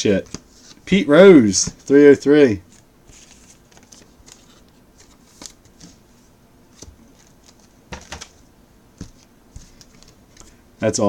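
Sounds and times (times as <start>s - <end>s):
cards rustling and sliding: 0.2s - 2.0s, 2.7s - 10.6s.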